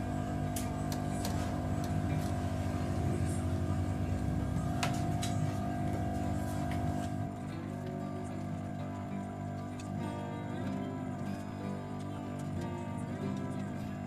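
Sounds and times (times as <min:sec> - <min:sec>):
hot-air blower whirring: 0:00.0 - 0:14.0.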